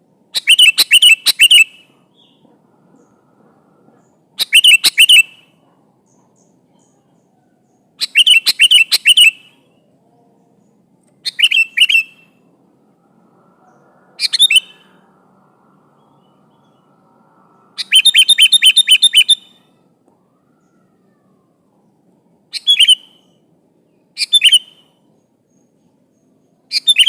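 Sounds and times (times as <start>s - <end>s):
bird singing chirpy notes: 0.0s - 27.0s.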